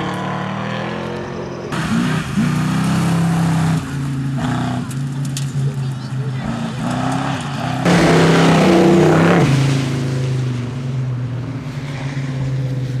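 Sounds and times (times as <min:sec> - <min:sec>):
vehicle engine droning and revving: 0:00.0 - 0:13.0.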